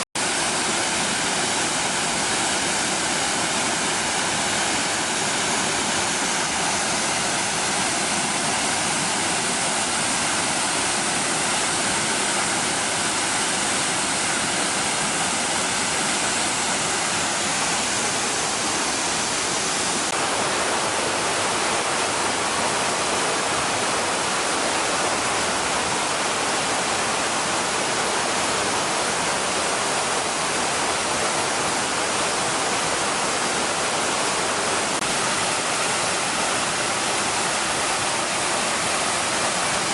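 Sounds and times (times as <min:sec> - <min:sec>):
waterfall pouring: 0:00.2 - 0:39.9.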